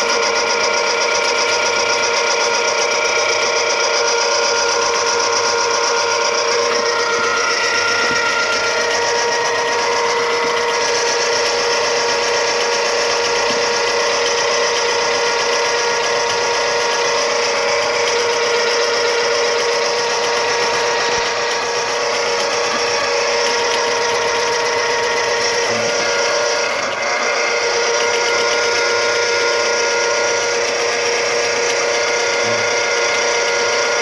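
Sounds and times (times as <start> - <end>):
small electric motor humming: 0.0 - 34.0.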